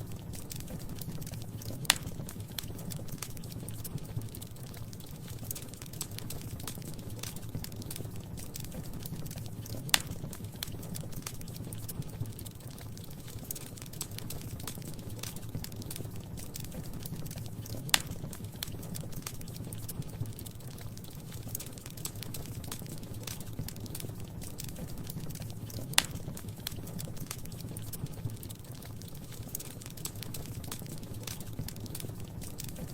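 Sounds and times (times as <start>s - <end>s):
wood fire crackling: 0.0s - 32.9s
sharp fire pops: 0.2s - 4.4s, 5.4s - 12.4s, 13.5s - 20.4s, 21.3s - 32.9s.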